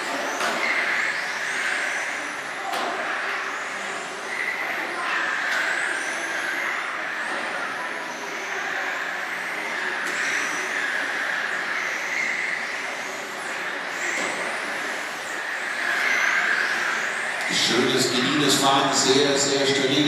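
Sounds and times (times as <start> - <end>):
toy car electric motors whining: 0.0 - 17.6.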